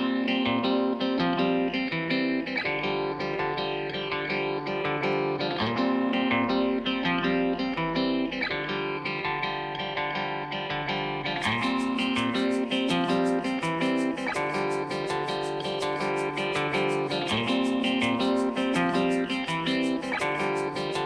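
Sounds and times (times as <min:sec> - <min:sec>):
guitar music: 0:00.0 - 0:21.0.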